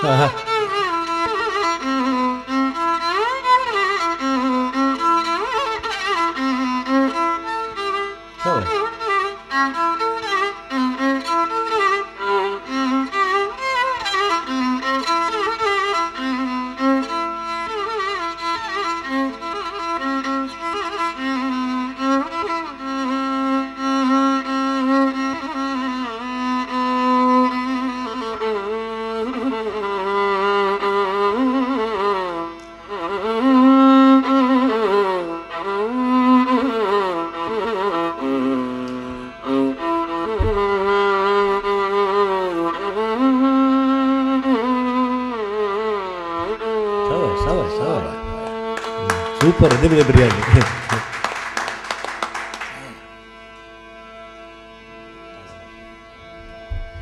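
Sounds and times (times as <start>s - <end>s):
solo violin melody: 0.0s - 57.0s.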